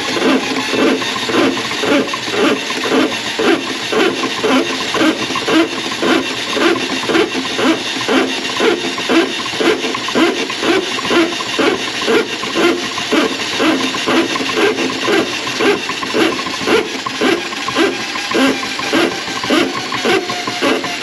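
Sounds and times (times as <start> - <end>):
drain cleaning machine knocking: 0.0 - 21.0.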